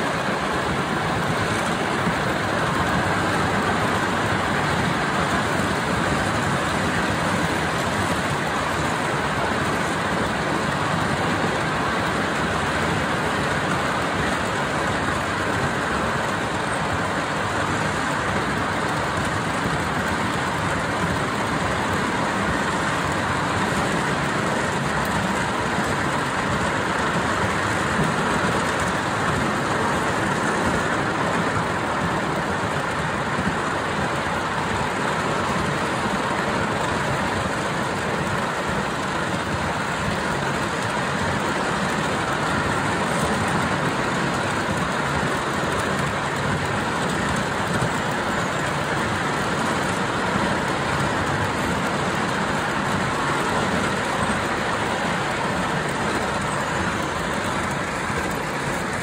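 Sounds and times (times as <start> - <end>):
miniature steam train running: 0.0 - 59.0.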